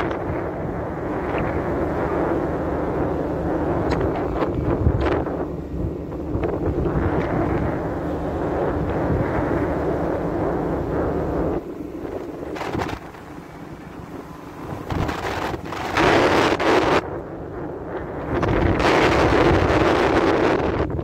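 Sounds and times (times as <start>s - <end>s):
wind gusting across microphone: 0.0s - 21.0s.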